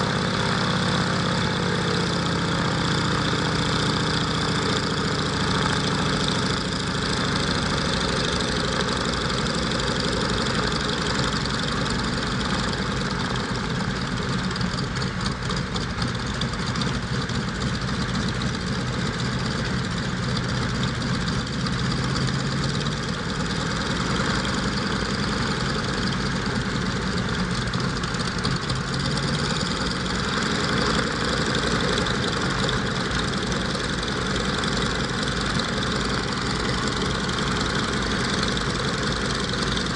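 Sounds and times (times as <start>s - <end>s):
aircraft piston engine running: 0.0s - 39.9s.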